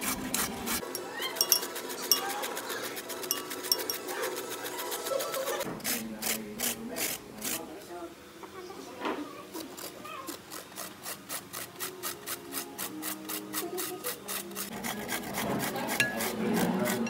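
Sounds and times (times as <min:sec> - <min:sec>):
vegetable rasping on grater: 0:00.0 - 0:07.7, 0:09.5 - 0:17.0.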